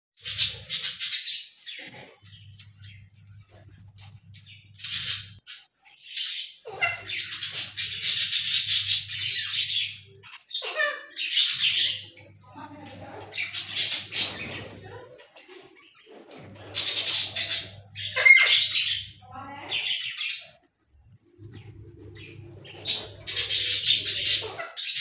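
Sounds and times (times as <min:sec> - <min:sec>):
budgerigars chattering and chirping: 0:00.2 - 0:25.0.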